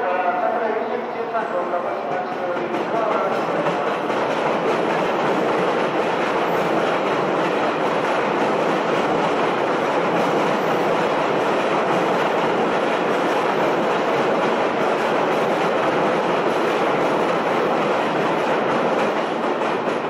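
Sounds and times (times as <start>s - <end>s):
high-speed train rushing noise: 0.0s - 20.0s.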